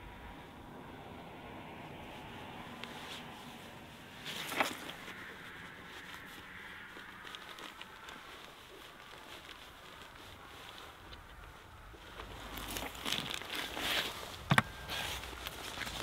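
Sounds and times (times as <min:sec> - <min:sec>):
clothing rustling: 0:02.1 - 0:16.0.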